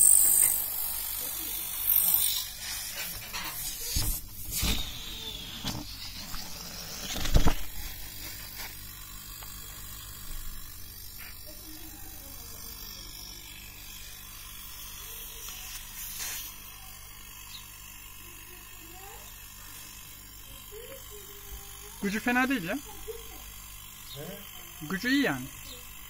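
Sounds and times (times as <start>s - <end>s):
compressor humming: 0.0s - 26.0s.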